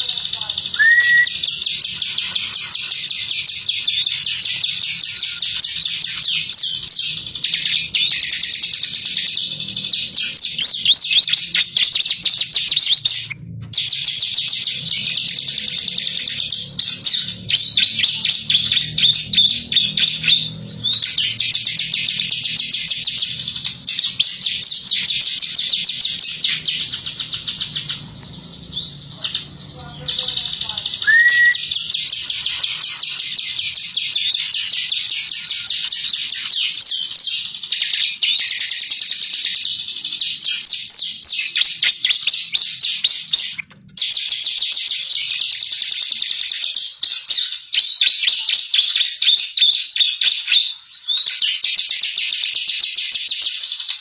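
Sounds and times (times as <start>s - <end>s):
bird singing rapid trills: 0.0s - 54.0s.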